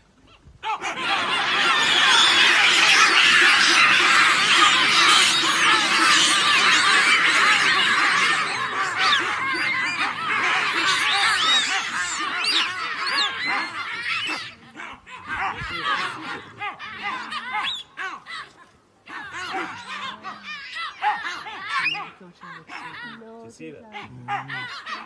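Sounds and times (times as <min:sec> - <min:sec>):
baboons screaming and barking: 0:00.3 - 0:23.3, 0:23.9 - 0:25.0.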